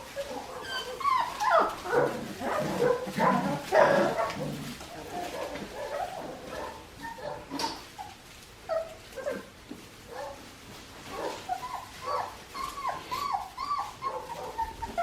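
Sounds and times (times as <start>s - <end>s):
puppies whimpering and yipping: 0.0s - 9.5s, 11.0s - 15.0s.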